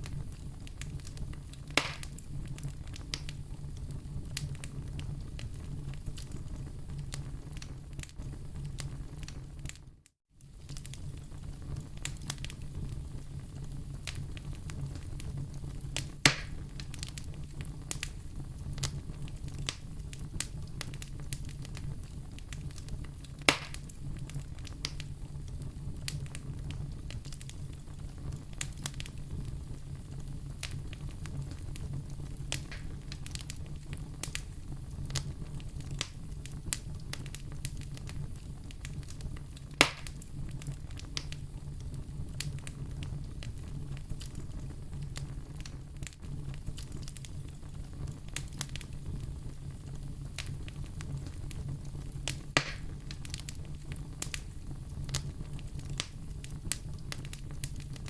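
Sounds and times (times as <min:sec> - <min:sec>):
fire popping: 0:00.0 - 0:58.0
low rumble of flames: 0:00.0 - 0:58.0
wood fire crackling: 0:00.0 - 0:58.0.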